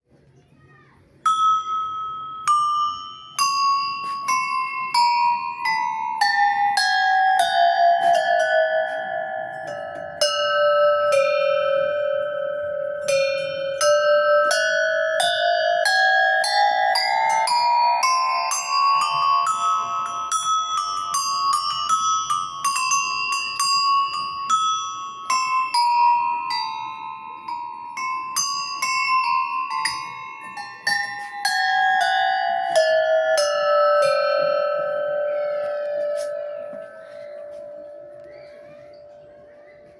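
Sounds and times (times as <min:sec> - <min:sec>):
metal goat bells ringing: 0:01.2 - 0:39.9.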